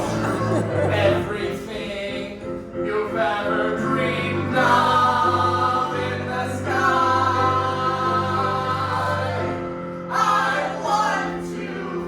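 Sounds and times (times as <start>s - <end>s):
steady musical accompaniment: 0.0s - 12.0s
voices singing held notes: 0.0s - 12.0s.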